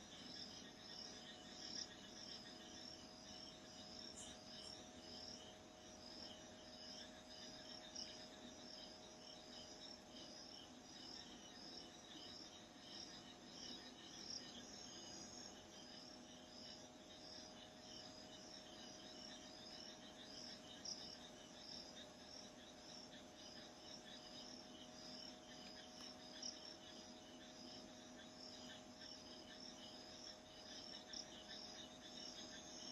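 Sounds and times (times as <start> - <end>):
crickets chirping: 0.0 - 32.9
low steady hum: 0.0 - 32.9.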